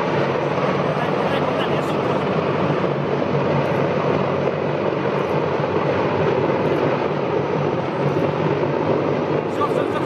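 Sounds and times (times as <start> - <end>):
helicopter rotor and turbines: 0.0 - 10.0.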